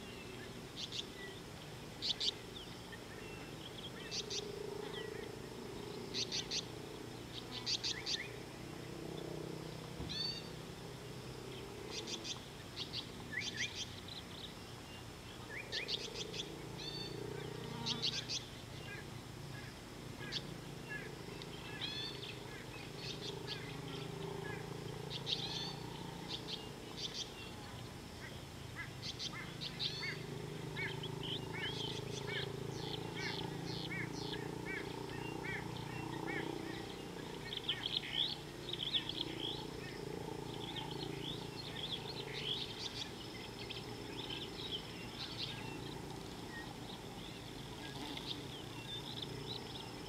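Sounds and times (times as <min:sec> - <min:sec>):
birds chirping: 0:00.0 - 0:50.0
low steady background noise: 0:00.0 - 0:50.0.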